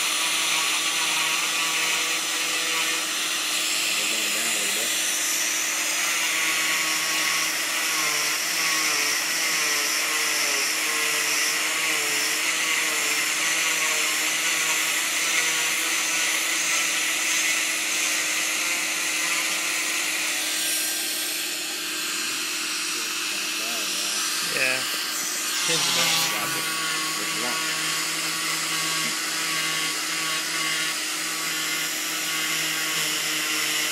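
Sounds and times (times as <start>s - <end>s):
cast saw motor whine: 0.0s - 33.9s.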